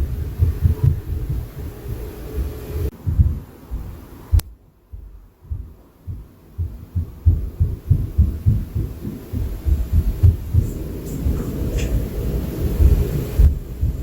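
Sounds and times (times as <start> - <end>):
dull thuds through ceiling: 0.0 - 14.0.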